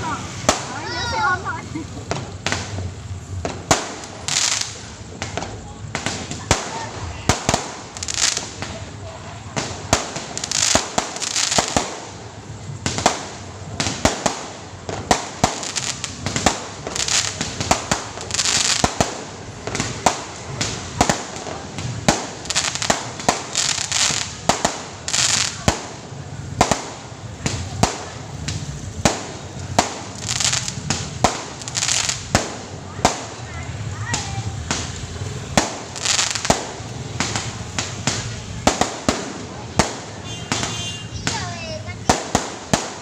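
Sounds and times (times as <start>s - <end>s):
crackling hiss: 0.0s - 43.0s
fireworks and firecrackers banging: 0.0s - 43.0s.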